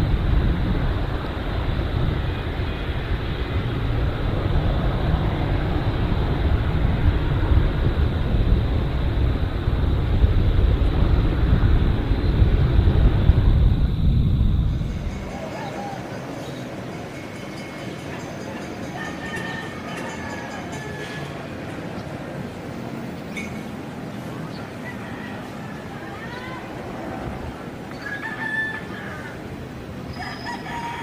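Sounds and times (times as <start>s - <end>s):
jet engines deep rumble: 0.0s - 30.3s.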